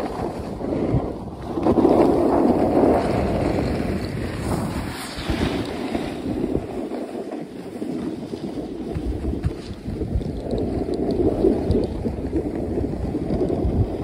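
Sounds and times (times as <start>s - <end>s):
snowboards sliding through snow: 0.0s - 14.0s
wind rushing over microphone: 0.0s - 14.0s.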